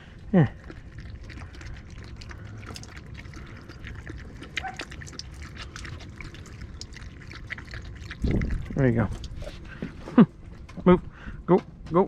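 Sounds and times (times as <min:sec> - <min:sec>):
dog lapping water: 0:00.0 - 0:10.1.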